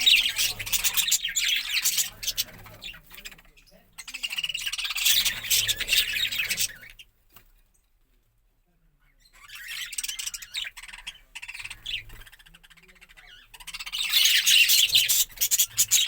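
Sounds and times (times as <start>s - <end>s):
budgerigars chattering: 0.0s - 7.1s, 9.2s - 16.0s.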